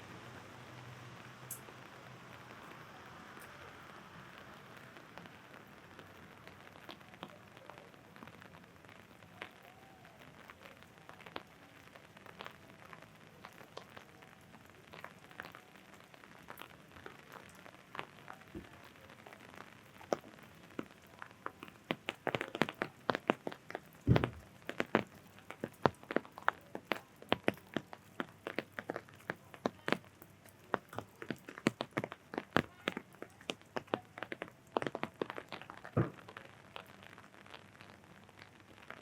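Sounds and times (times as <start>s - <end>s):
raindrops tapping on umbrella: 1.0s - 39.0s.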